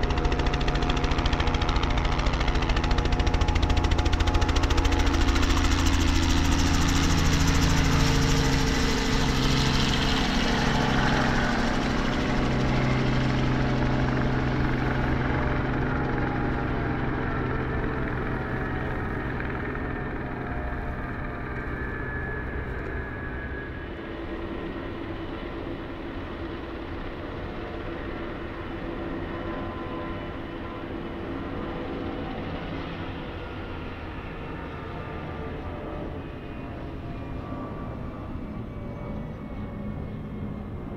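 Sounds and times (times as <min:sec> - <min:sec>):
helicopter flying past: 0:00.0 - 0:40.9.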